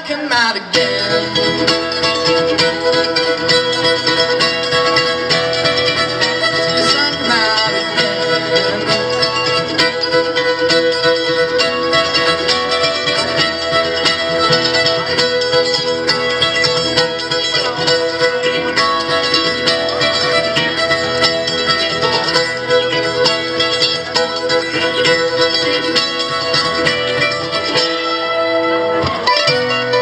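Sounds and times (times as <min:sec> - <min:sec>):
acoustic guitar picked and strummed: 0:00.0 - 0:30.0
fiddle: 0:00.0 - 0:30.0.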